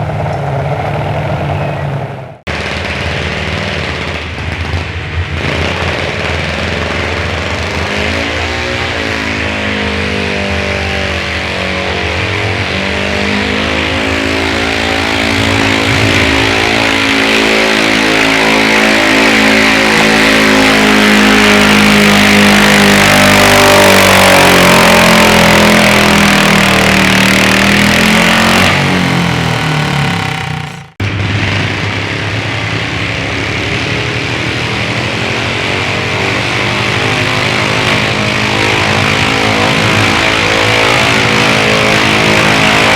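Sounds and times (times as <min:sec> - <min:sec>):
garden tractor engines under load: 0:00.0 - 0:42.9.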